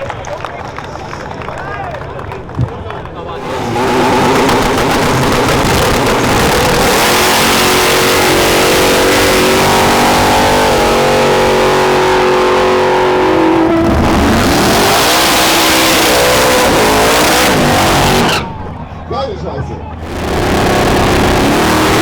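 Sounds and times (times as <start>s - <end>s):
drag-race cars accelerating: 0.0s - 19.1s, 19.9s - 22.0s.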